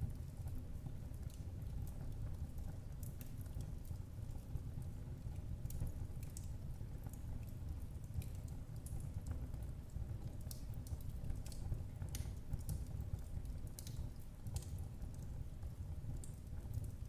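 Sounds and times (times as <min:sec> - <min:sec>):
wood fire flames rumbling: 0:00.0 - 0:17.0
fire crackling and popping: 0:00.1 - 0:17.0.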